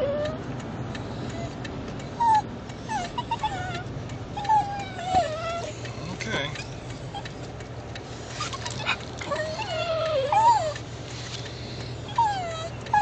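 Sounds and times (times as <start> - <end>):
small dogs whining: 0.0 - 0.5, 1.2 - 7.5, 8.2 - 13.0.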